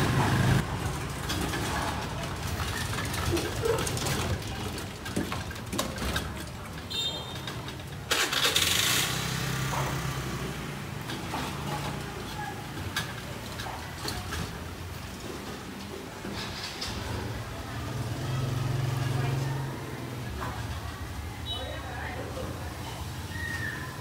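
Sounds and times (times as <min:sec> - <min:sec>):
motorbike engines passing: 0:00.0 - 0:24.0.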